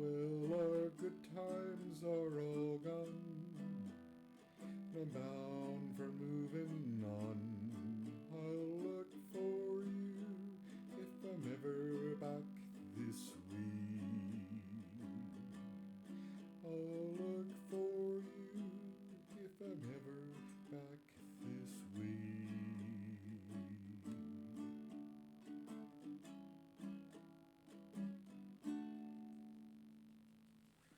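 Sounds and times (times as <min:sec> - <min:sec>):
ukulele strumming: 0:00.0 - 0:30.4.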